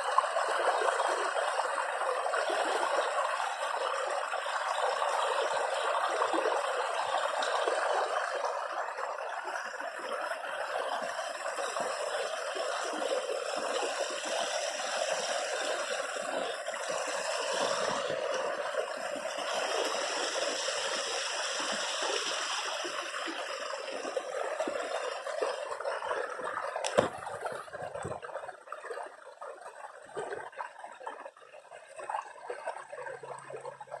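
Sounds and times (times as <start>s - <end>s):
running water in a stream: 0.0s - 34.0s.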